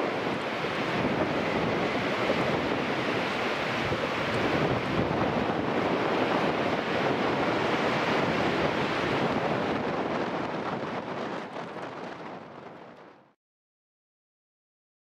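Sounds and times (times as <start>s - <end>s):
choppy sea washing: 0.0s - 13.4s
wind buffeting microphone: 0.0s - 13.4s.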